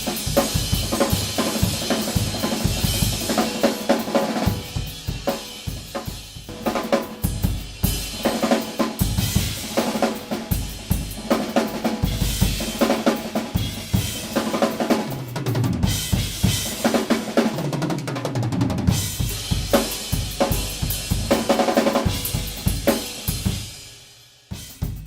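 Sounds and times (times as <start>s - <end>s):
acoustic drum kit solo: 0.0s - 25.0s.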